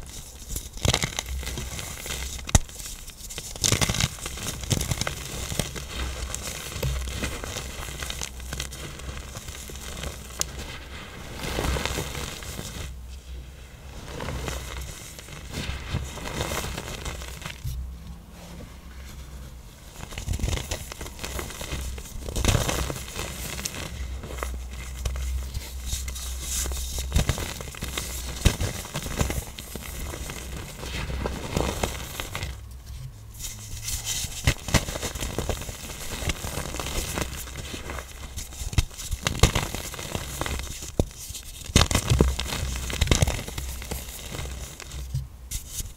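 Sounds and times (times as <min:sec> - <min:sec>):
powder blocks crunching and crackling: 0:00.0 - 0:13.0, 0:13.8 - 0:17.8, 0:19.9 - 0:45.9.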